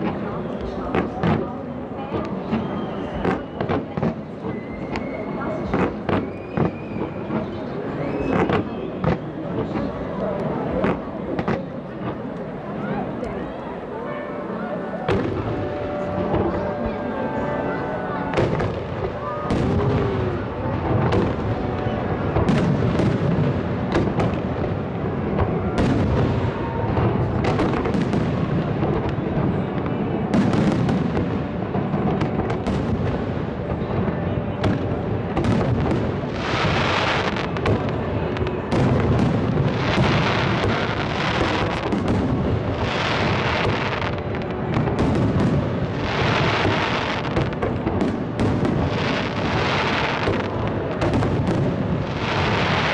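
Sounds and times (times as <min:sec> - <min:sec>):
fireworks cracks and booms: 0:00.0 - 0:13.5, 0:15.0 - 0:52.9.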